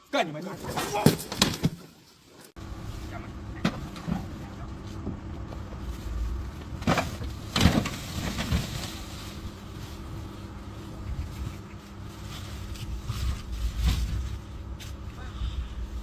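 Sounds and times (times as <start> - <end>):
steady low rumble: 2.6 - 16.0.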